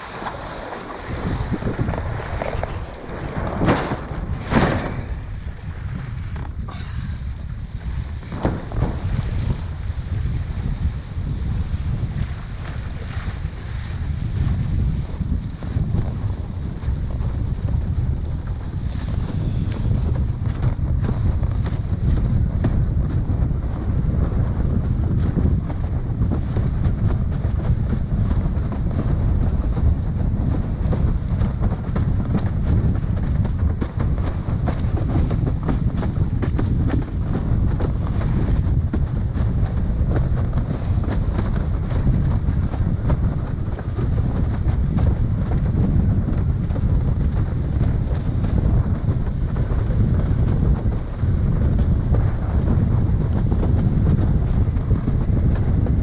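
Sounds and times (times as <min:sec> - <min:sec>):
board rushing over water: 0:00.0 - 0:56.0
wind buffeting microphone: 0:00.0 - 0:56.0.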